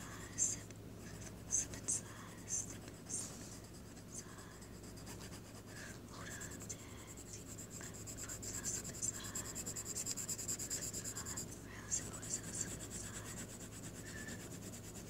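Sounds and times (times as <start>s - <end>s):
pencil scratching on paper: 0.2s - 15.0s.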